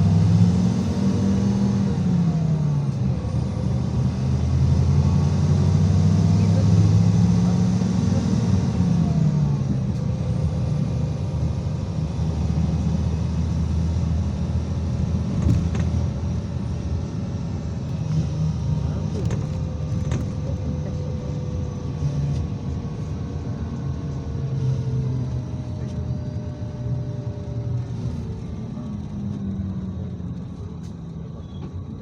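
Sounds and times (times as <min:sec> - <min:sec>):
bus diesel engine droning: 0:00.0 - 0:32.0.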